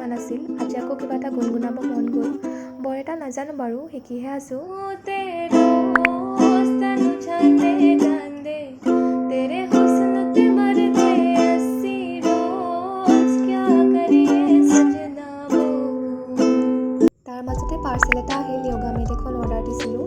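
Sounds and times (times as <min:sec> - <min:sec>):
ukulele strumming chords: 0:00.0 - 0:02.8, 0:05.5 - 0:15.8, 0:16.4 - 0:20.0.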